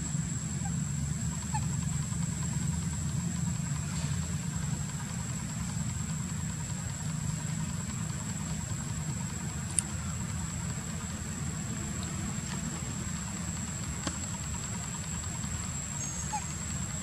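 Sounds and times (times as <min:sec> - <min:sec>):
high-pitched whine: 0:00.0 - 0:17.0
low steady hum: 0:00.0 - 0:17.0.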